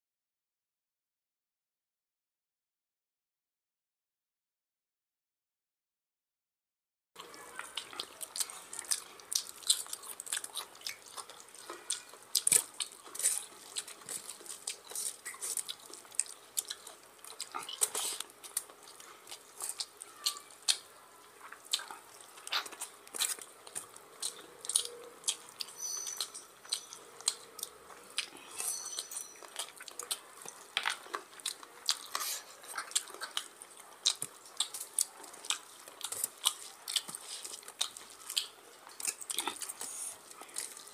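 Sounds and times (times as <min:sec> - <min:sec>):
lip-smacking chewing: 0:07.2 - 0:40.9.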